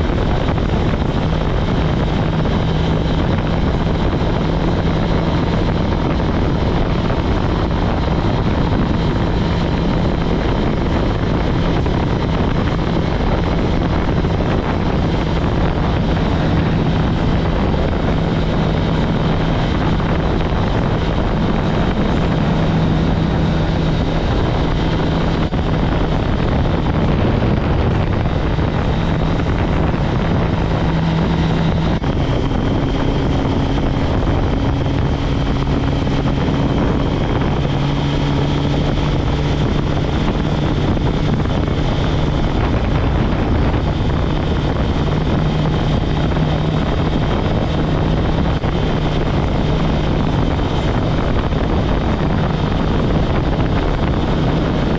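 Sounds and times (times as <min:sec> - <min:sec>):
motorcycle engine cruising: 0:00.0 - 0:54.9
wind on microphone: 0:00.0 - 0:54.9.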